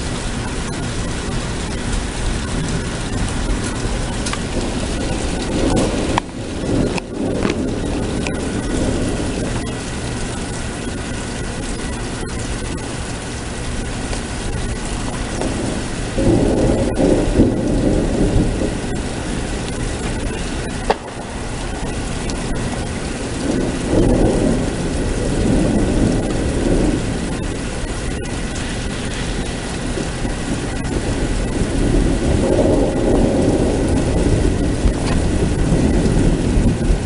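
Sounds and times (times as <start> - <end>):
rolling thunder: 0.0 - 37.0
steady rain: 0.0 - 37.0.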